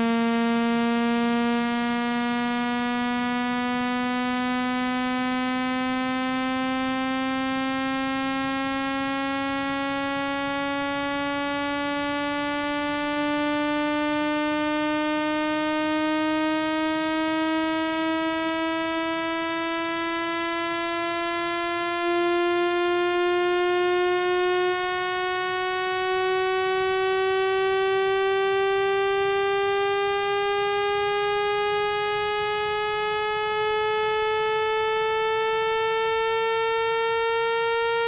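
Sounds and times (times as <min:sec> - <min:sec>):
rising buzzing electronic tone: 0:00.0 - 0:38.0.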